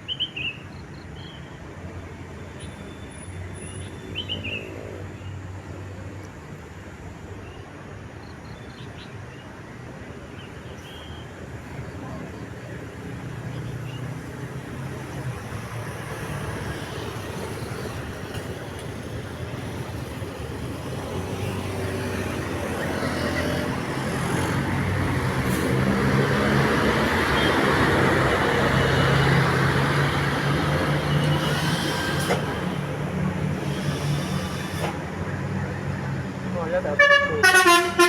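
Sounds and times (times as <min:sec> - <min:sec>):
vehicle engine hum and tyres: 0:00.0 - 0:38.0.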